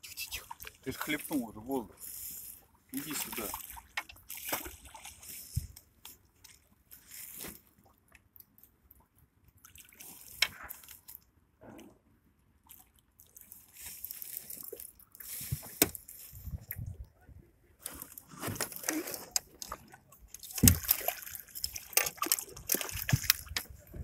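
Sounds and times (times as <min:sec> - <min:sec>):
water splashing and sloshing: 0:00.1 - 0:24.0.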